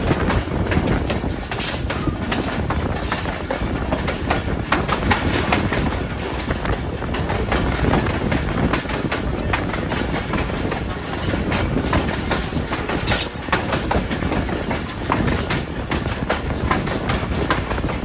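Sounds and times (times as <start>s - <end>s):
train rumbling: 0.0s - 18.0s
wheels clattering on track: 0.0s - 18.0s.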